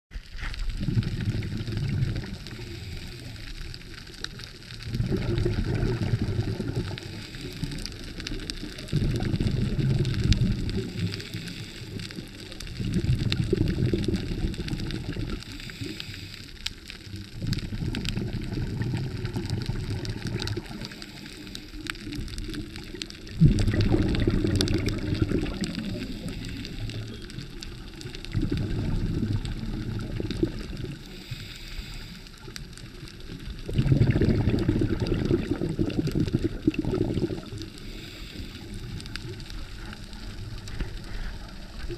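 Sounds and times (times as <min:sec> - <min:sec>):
underwater exhaled bubbles gurgling: 0:00.1 - 0:41.9.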